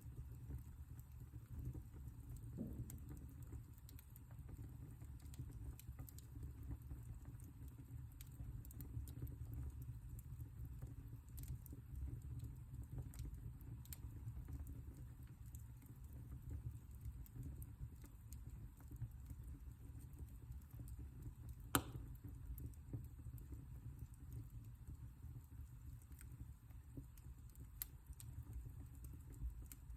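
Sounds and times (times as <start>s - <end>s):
fireplace fire crackling: 0.0s - 29.9s.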